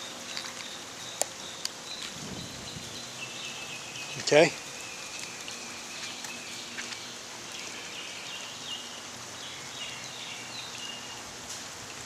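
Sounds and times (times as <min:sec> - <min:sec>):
high chirping calls: 0:00.0 - 0:11.2
rain and running water: 0:00.0 - 0:12.0.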